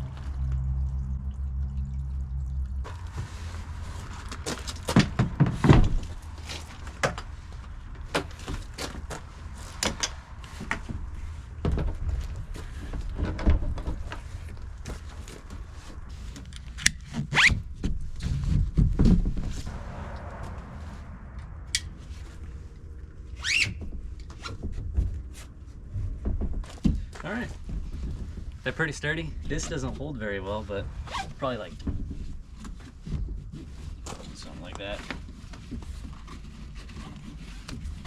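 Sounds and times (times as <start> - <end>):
low steady rumble: 0.0 - 38.0.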